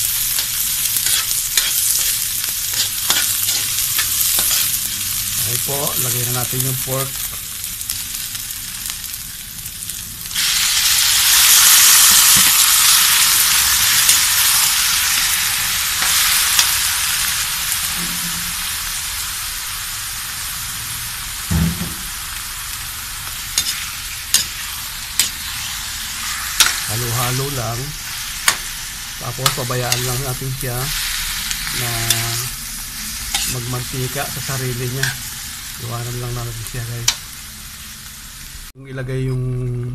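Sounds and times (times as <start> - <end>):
meat sizzling in hot oil: 0.0 - 38.7.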